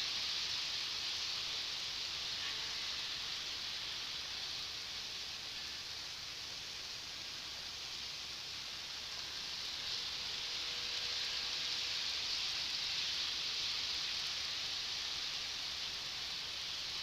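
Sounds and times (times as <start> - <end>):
model train rushing hiss: 0.0 - 17.0.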